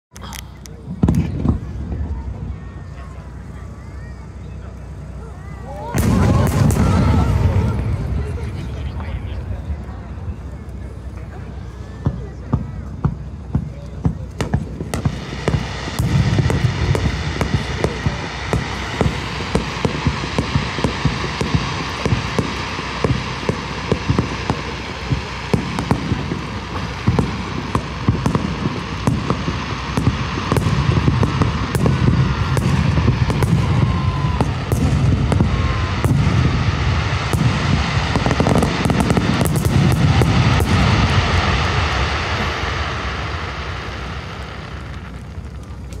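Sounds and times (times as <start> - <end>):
firework bursts crackling: 0.1 - 46.0
heavy firework booms: 0.8 - 4.0, 5.8 - 46.0.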